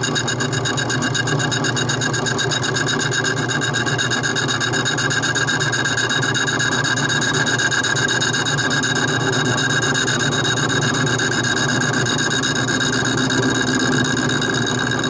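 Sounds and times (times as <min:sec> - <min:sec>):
metal lathe whining: 0:00.0 - 0:15.0.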